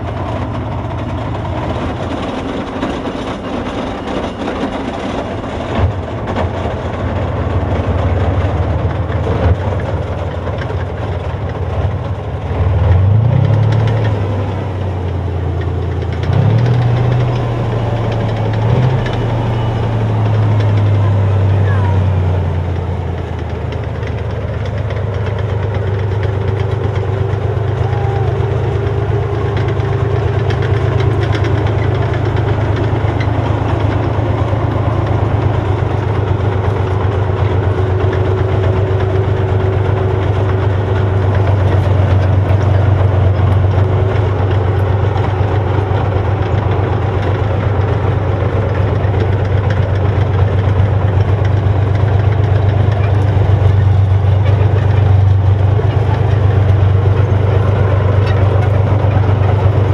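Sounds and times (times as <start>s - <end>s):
tank engine running: 0.0s - 59.9s.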